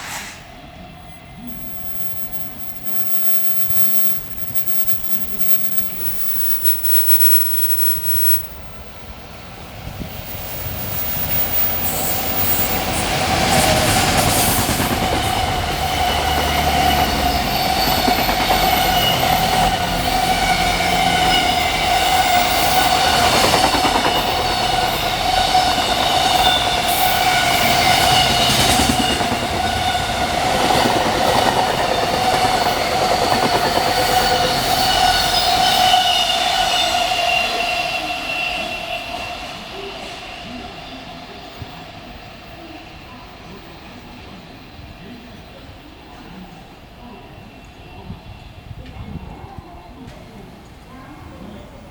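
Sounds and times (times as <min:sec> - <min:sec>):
high ringing from train wheels: 0:00.0 - 0:45.2
freight train passing: 0:00.0 - 0:51.9.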